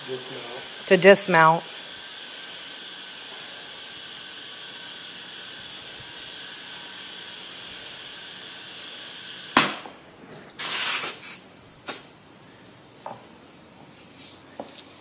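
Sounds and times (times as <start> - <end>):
compressed air hissing: 0.0 - 12.2.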